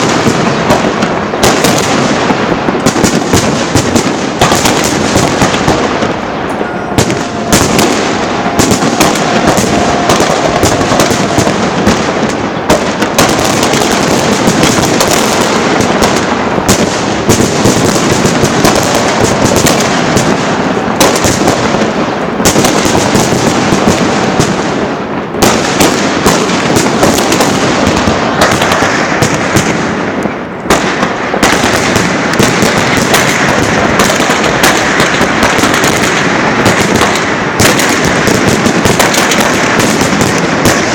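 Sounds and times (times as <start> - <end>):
fireworks bangs and crackling bursts: 0.0 - 40.9.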